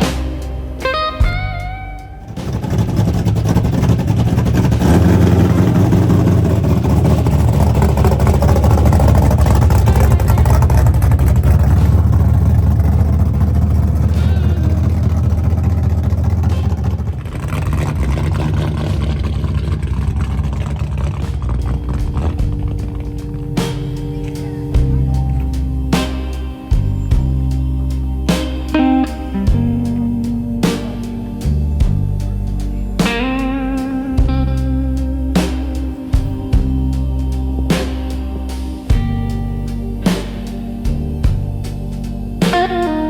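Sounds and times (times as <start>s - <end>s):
car engine running: 0.0s - 43.0s.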